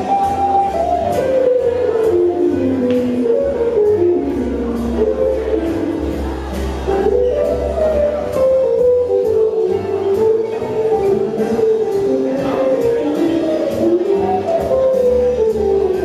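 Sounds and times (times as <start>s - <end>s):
swing jazz band playing: 0.0s - 16.0s.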